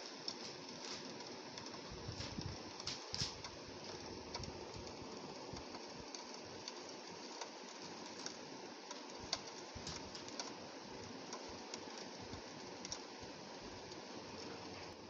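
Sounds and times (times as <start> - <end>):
rain hiss on window: 0.0 - 15.0
raindrops ticking on glass: 0.0 - 15.0.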